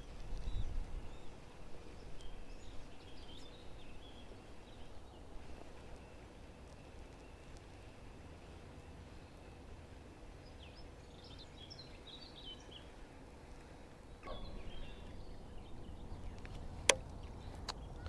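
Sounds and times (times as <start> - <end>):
small birds chirping: 0.0 - 7.9, 10.4 - 13.0, 14.0 - 18.0.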